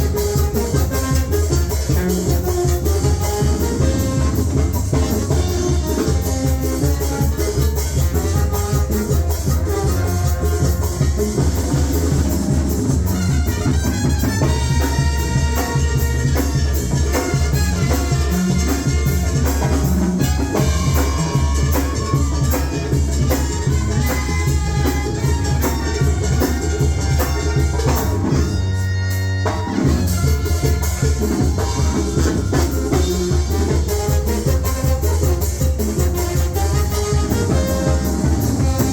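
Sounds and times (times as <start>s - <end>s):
latin dance music with heavy bass: 0.0s - 38.9s.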